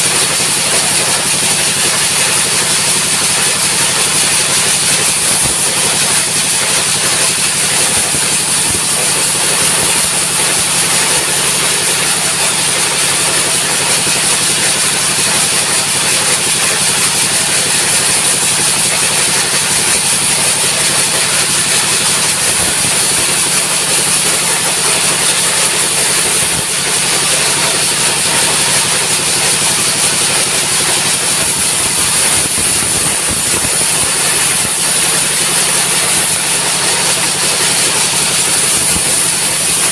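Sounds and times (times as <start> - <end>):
diesel engine running hard: 0.0 - 39.9.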